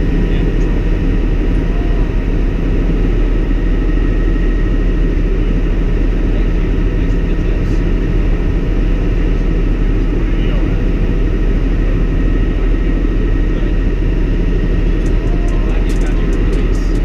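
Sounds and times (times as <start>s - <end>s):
helicopter rotor and engine drone: 0.0s - 17.0s
thin steady whine: 0.0s - 17.0s.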